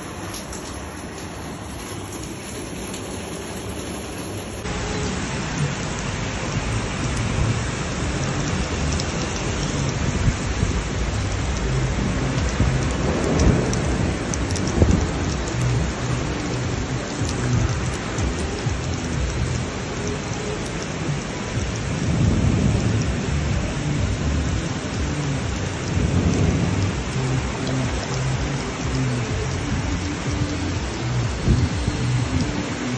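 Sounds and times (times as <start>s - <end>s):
low rumble: 0.0s - 20.3s, 21.1s - 32.9s
heavy rain hiss: 0.0s - 32.9s.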